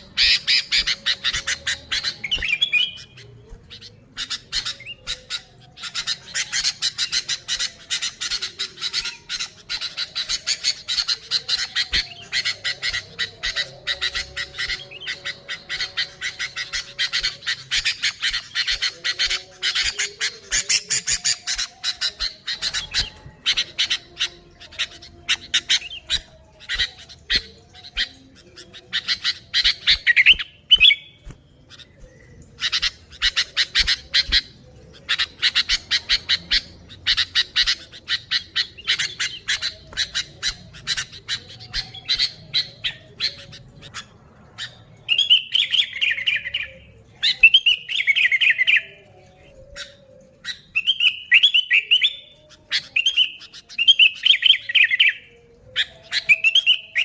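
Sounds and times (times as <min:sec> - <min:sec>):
bulbul harsh chattering calls: 0:00.0 - 0:49.0.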